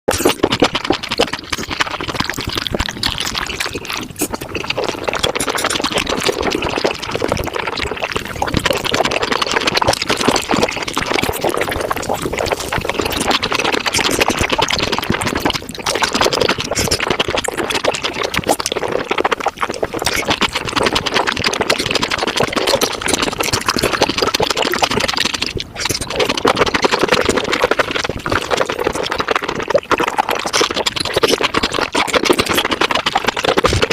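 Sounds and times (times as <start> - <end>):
sped-up wet chewing and slurping: 0.1 - 33.9.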